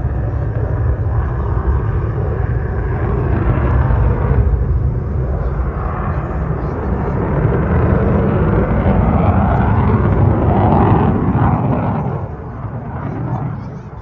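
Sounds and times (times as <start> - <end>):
loud jet roar: 0.0 - 14.0.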